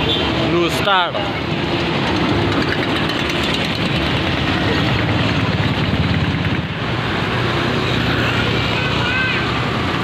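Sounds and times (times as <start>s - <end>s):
bus diesel engine passing: 0.0s - 10.0s
road noise: 0.0s - 10.0s.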